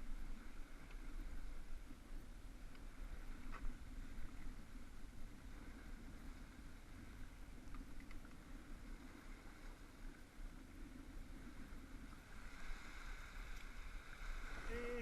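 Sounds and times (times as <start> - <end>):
faint ticks: 0.0 - 15.0
outdoor background noise: 0.0 - 15.0.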